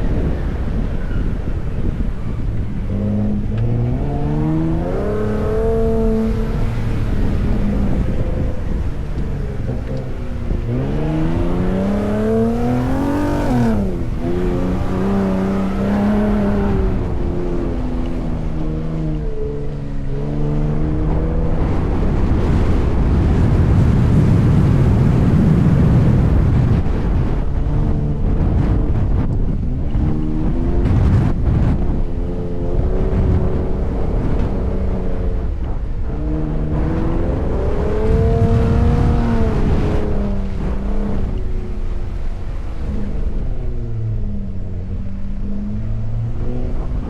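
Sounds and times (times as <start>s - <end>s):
truck engine accelerating: 0.0s - 47.0s
wind on microphone: 0.0s - 47.0s.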